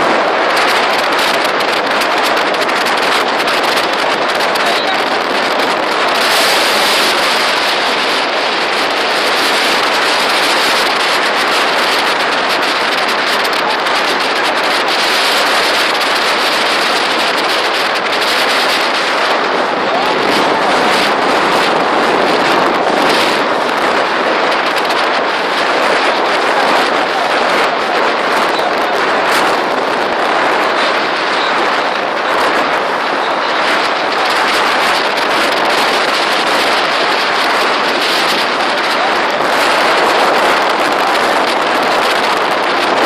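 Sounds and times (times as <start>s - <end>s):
water rushing past boat: 0.0s - 43.0s
wind buffeting microphone: 0.0s - 43.0s.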